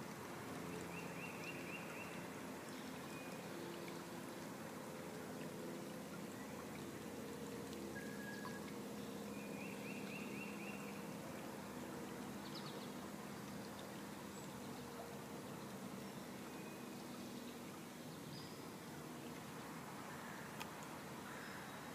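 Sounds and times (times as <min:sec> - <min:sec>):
creek trickling: 0:00.0 - 0:21.9.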